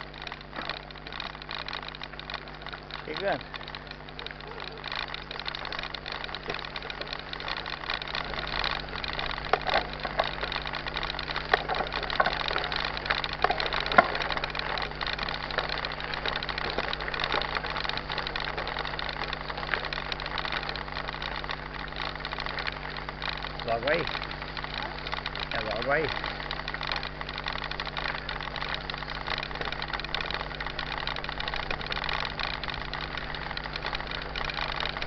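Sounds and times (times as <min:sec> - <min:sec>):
bike rattling over rough trail: 0:00.0 - 0:35.0
sharp clicks and knocks: 0:00.0 - 0:35.0
steady hum: 0:00.0 - 0:35.0.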